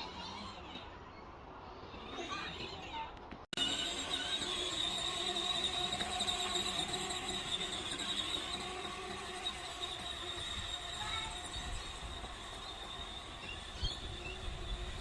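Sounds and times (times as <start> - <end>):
toy car electric motors whining: 0.0 - 0.9, 3.6 - 15.0.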